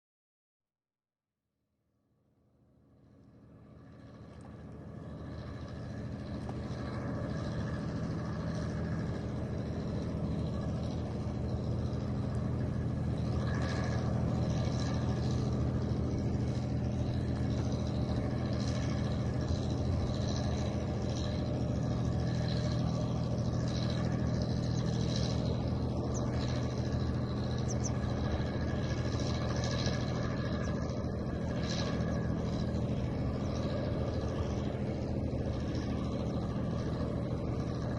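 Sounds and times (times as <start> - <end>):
low engine hum: 2.5 - 37.9.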